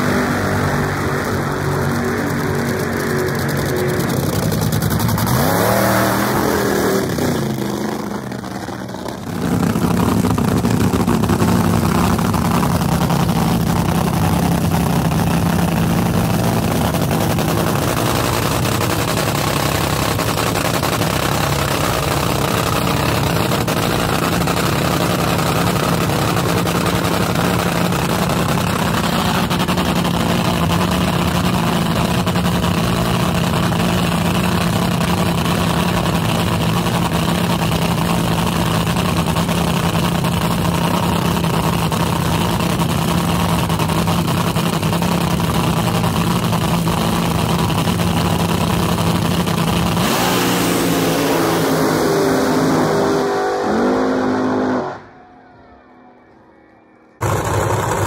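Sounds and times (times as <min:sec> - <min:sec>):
dragster engine revving and idling: 0:00.0 - 0:55.2, 0:57.2 - 0:58.0.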